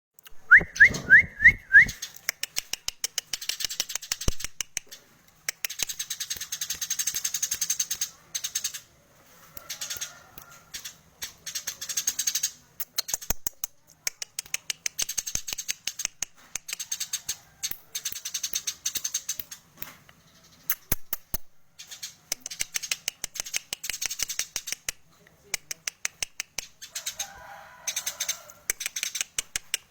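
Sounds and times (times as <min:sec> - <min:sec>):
sparrow ticking chatter: 0:00.4 - 0:25.0, 0:25.6 - 0:29.9.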